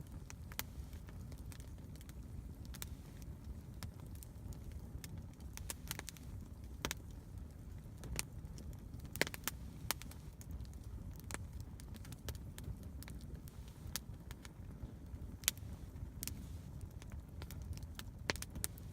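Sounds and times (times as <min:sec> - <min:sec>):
campfire crackling: 0:00.0 - 0:18.9
low steady rumble: 0:00.0 - 0:18.9.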